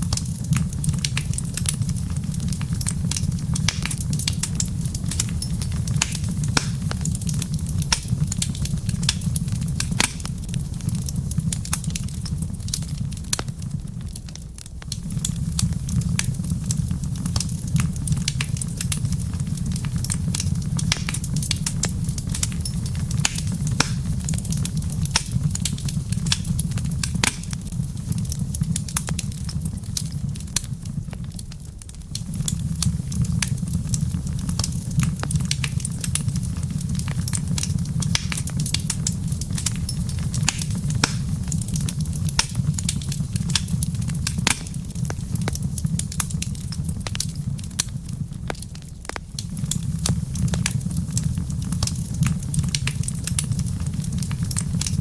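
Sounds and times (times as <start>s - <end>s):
fire crackles and pops: 0.0s - 55.0s
fire flames rumbling: 0.0s - 55.0s.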